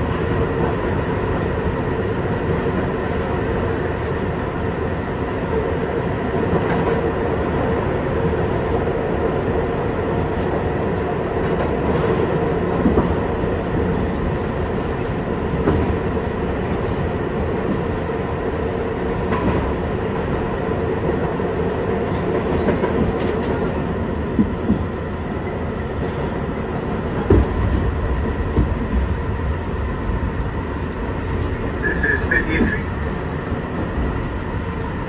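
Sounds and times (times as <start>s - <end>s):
subway wheels rumbling on rail: 0.0s - 35.0s.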